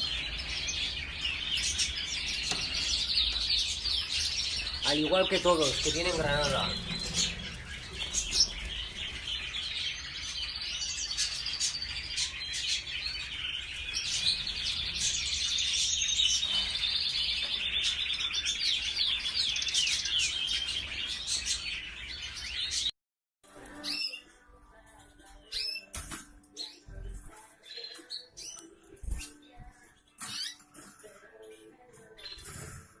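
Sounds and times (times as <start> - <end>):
canaries chirping and singing: 0.0 - 22.9, 23.5 - 33.0.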